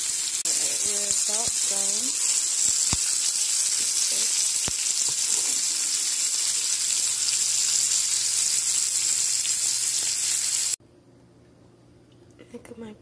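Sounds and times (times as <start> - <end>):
steak sizzling in a frying pan: 0.0 - 10.8.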